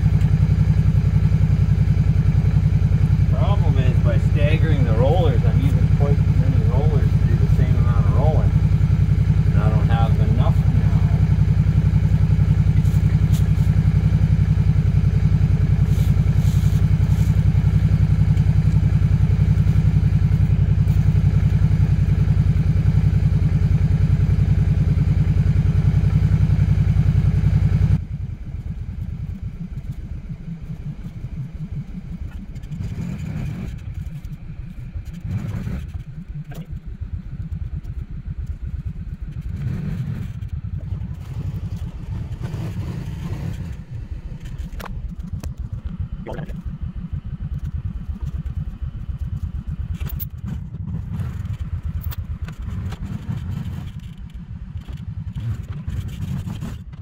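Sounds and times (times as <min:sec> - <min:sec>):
engine running loud: 0:00.0 - 0:57.0
low uneven rumble: 0:00.0 - 0:57.0.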